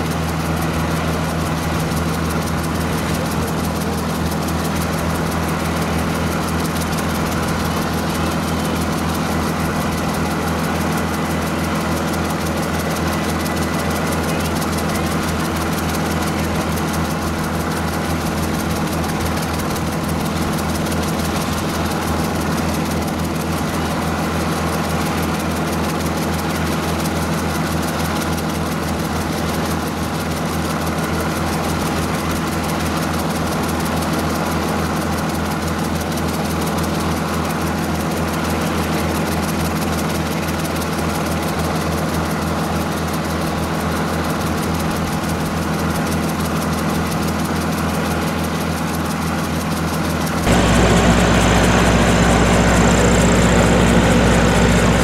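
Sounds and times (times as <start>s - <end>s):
helicopter engine and rotor running: 0.0s - 55.0s.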